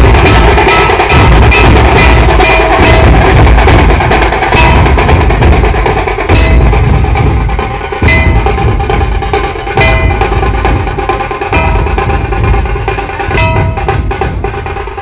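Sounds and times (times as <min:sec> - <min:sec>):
large drums pounding: 0:00.0 - 0:15.0
rapid sharp drum strokes: 0:00.0 - 0:15.0.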